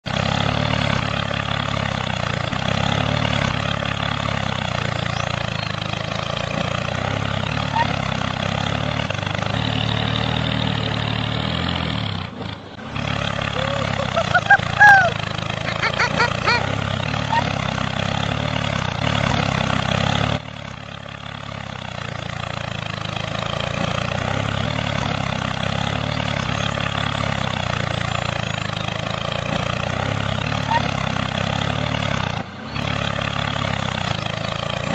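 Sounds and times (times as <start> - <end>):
small tractor motor running: 0.0 - 34.9
small engine puttering: 0.1 - 34.9.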